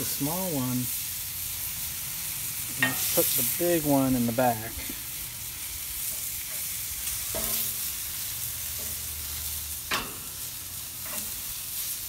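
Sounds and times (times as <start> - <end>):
steaks sizzling on a grill: 0.0 - 12.0.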